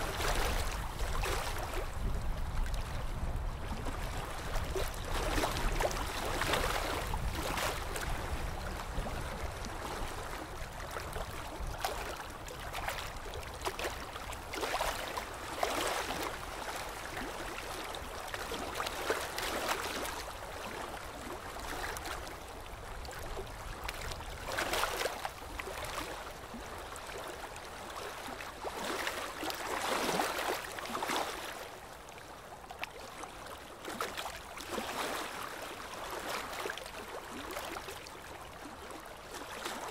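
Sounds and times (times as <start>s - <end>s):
water sloshing and splashing: 0.0s - 39.9s.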